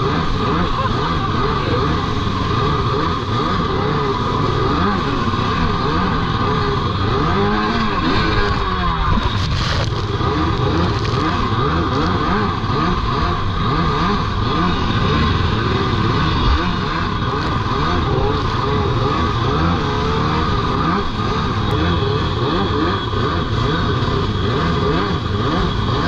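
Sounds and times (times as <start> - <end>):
jet ski engines revving: 0.0 - 26.0.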